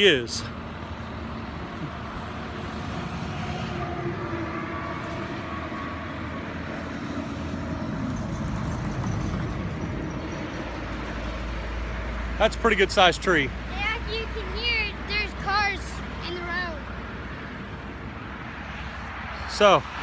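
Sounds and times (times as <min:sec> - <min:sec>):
cars passing on road: 0:00.0 - 0:20.0.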